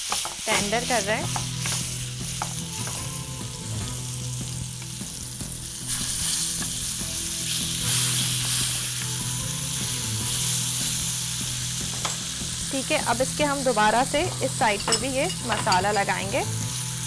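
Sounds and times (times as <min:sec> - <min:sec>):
chicken sizzling in a pan: 0:00.0 - 0:17.0.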